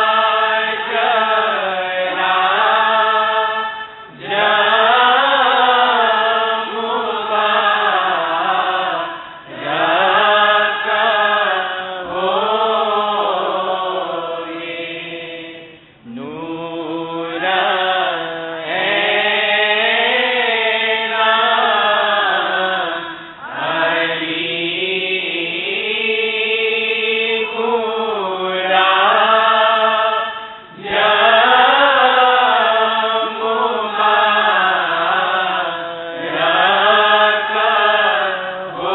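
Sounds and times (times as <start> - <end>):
person chanting a prayer: 0.0 - 38.9.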